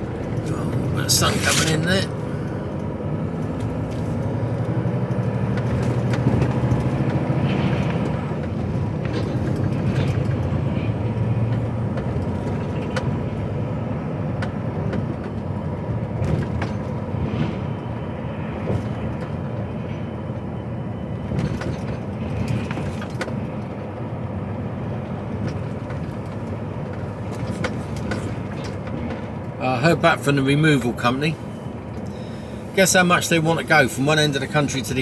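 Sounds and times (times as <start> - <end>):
diesel engine running: 0.0 - 35.0
road rumble: 0.0 - 35.0.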